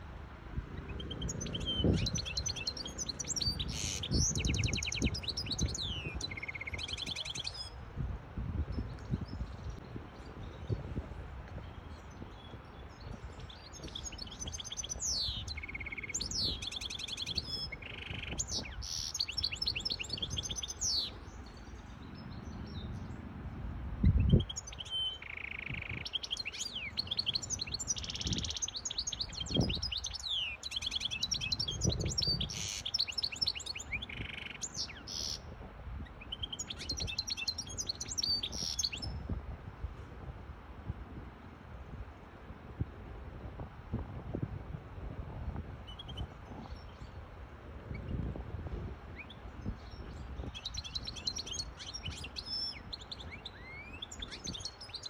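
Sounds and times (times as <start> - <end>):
wind rumble: 0.0 - 24.9, 25.6 - 55.0
finch twittering song: 0.7 - 7.8, 8.5 - 23.3, 24.0 - 39.4, 45.8 - 47.2, 49.0 - 55.0.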